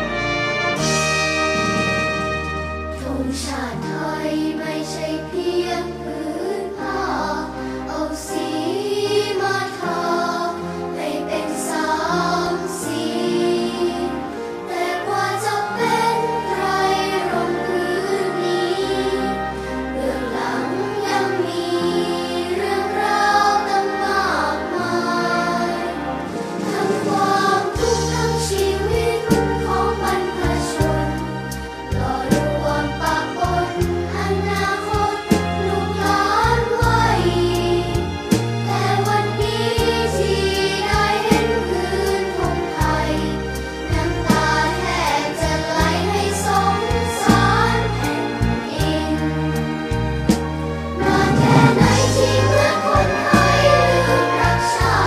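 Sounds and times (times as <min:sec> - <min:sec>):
instrumental accompaniment: 0:00.0 - 0:55.0
children's choir singing: 0:01.5 - 0:55.0.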